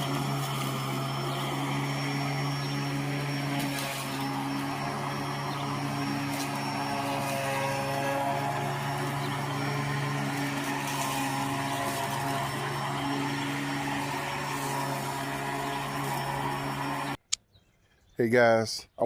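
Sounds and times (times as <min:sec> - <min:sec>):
electric lawn mower running: 0:00.0 - 0:17.2.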